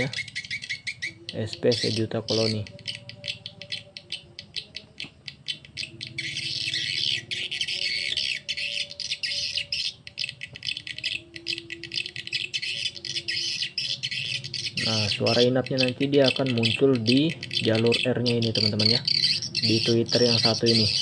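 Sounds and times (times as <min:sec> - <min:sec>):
recorded bird chirping twitters: 0:00.0 - 0:21.0.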